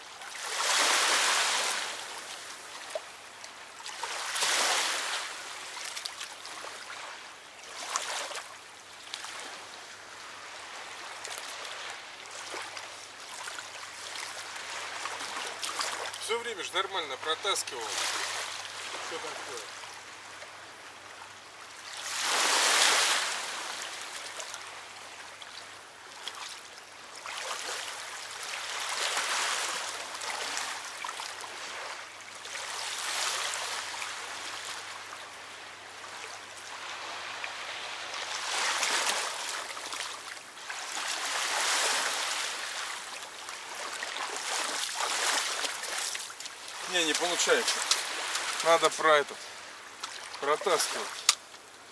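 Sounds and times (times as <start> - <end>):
small waves washing on sand: 0.0 - 51.9.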